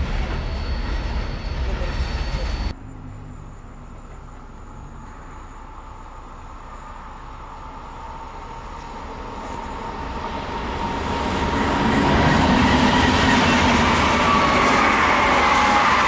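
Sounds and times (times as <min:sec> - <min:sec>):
train wheels on rails: 0:00.0 - 0:02.8, 0:03.8 - 0:16.0
steady high whine: 0:00.0 - 0:16.0.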